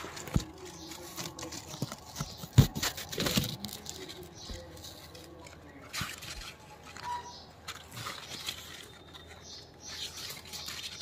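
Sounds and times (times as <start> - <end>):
rustling leaves and branches: 0.0 - 11.0.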